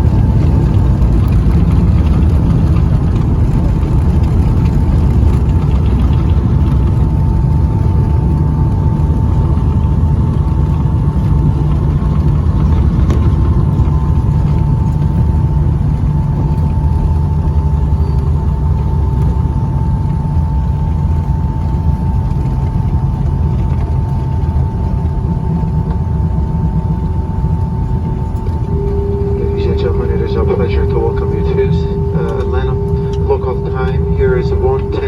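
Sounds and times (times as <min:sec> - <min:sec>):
jet engine cabin rumble: 0:00.0 - 0:35.0
steady whine: 0:00.0 - 0:35.0.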